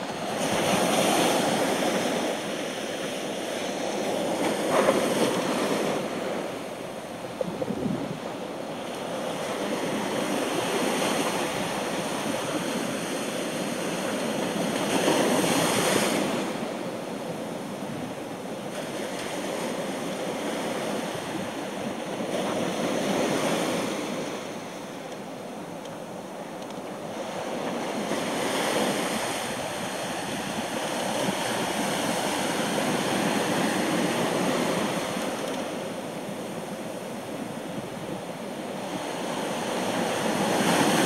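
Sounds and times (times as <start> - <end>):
ocean surf breaking on beach: 0.0 - 41.0.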